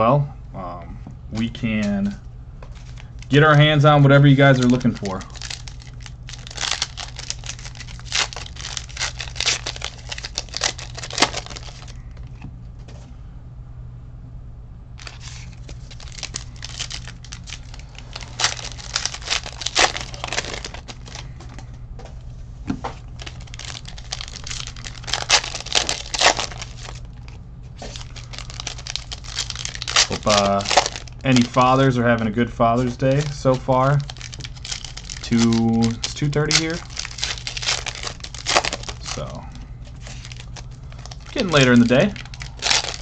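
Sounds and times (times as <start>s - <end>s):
foil wrappers tearing and crinkling: 2.8s - 12.0s, 15.0s - 21.4s, 23.0s - 43.0s.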